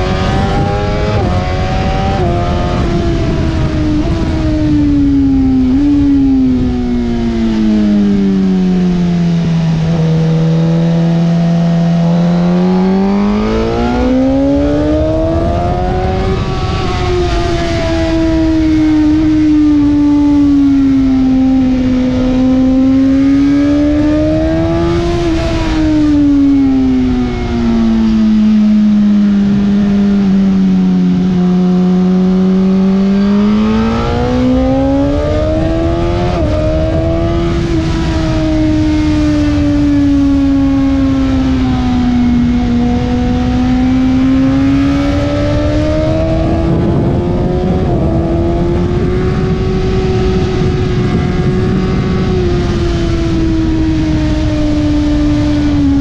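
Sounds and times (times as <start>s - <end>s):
motorcycle engine running hard: 0.0s - 56.0s
steady rushing noise: 0.0s - 56.0s.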